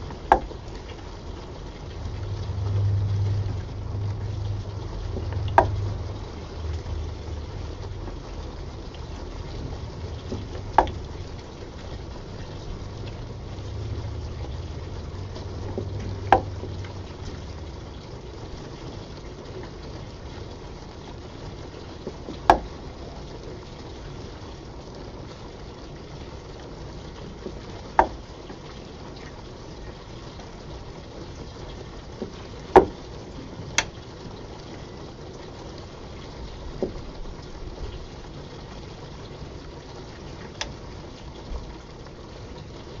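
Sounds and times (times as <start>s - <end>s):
steam bubbling and hissing in pipe: 0.0s - 43.0s.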